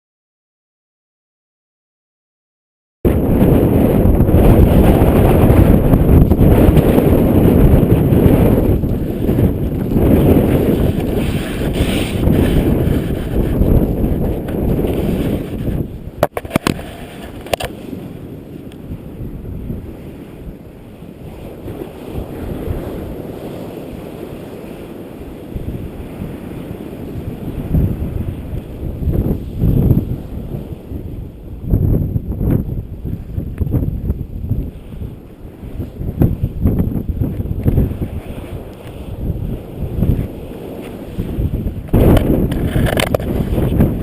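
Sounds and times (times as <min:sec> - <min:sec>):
wind buffeting microphone: 0:03.0 - 0:44.0.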